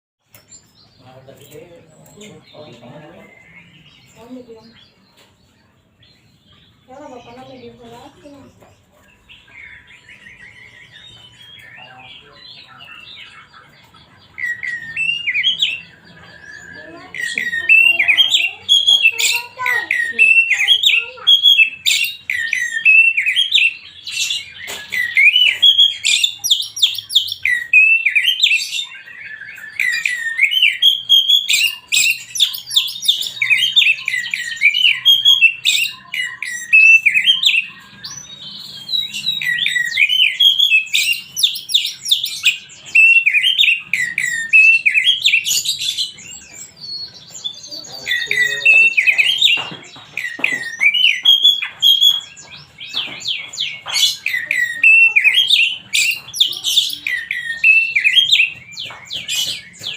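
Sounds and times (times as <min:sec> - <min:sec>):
songbird whistling song: 0:00.2 - 0:59.9.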